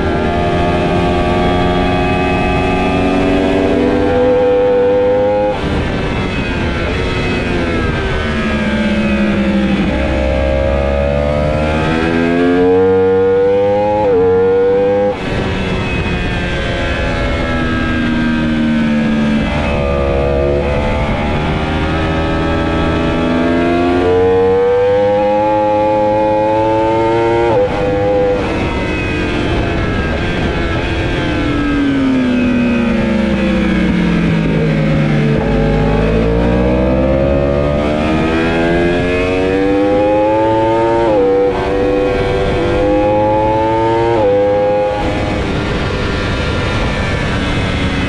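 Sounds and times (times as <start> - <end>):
motorcycle engine revving: 0.0 - 48.0
wind rush: 0.0 - 48.0.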